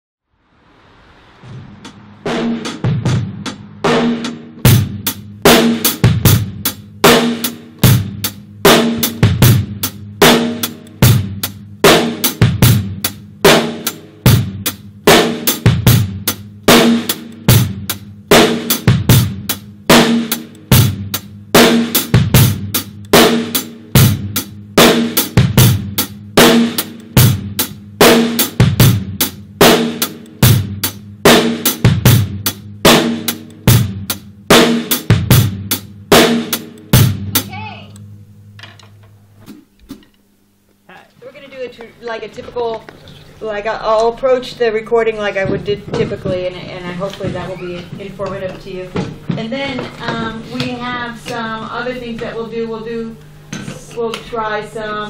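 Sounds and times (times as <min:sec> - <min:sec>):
drum kit playing rock groove: 0:01.8 - 0:42.9, 0:43.9 - 0:54.9.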